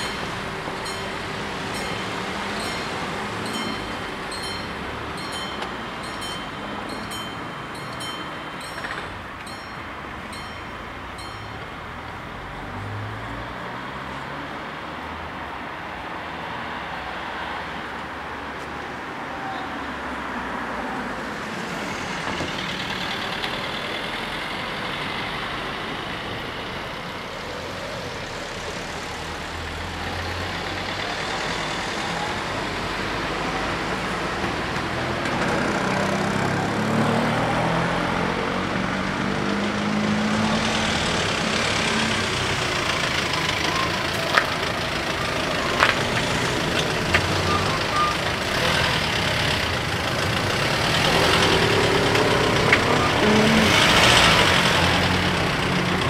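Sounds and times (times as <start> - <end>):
car engines idling: 0.0 - 12.8, 21.7 - 36.8, 38.6 - 56.0
vehicle engine pulling up close: 0.0 - 15.0, 21.1 - 56.0.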